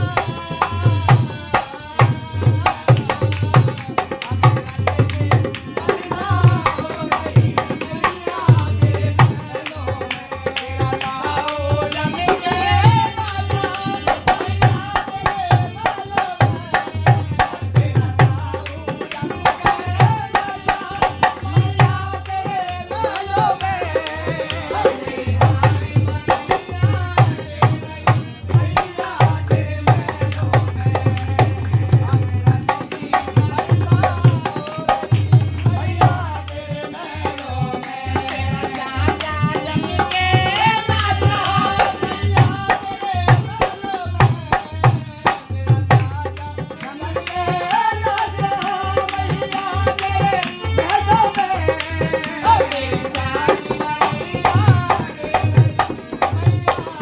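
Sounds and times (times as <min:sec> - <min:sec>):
harmonium: 0:00.0 - 0:57.0
person singing: 0:00.0 - 0:57.0.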